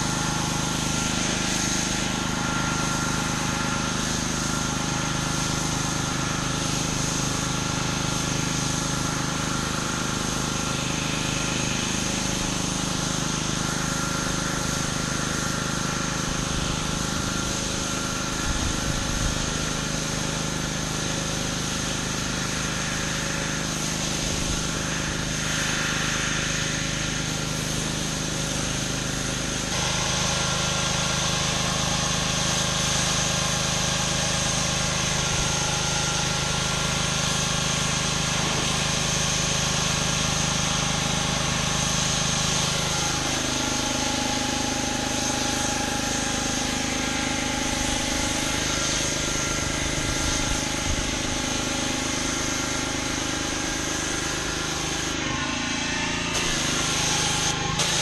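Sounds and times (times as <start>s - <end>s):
pressure washer engine running: 0.0s - 58.0s
water jet spraying on concrete: 0.0s - 58.0s.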